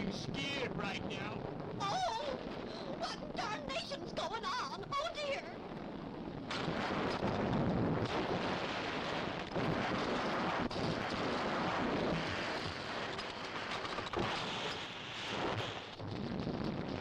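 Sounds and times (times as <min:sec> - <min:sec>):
rockfall rumble: 0:00.0 - 0:17.0.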